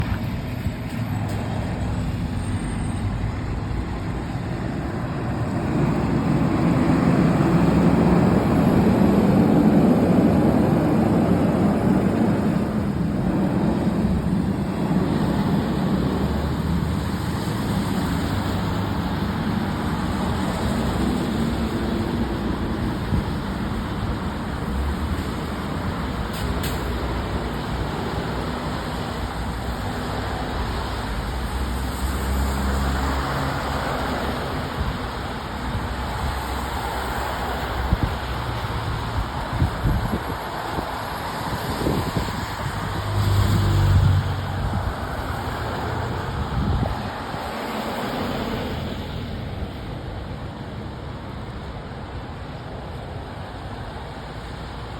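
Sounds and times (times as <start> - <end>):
diesel engine rumbling: 0.0 - 54.9.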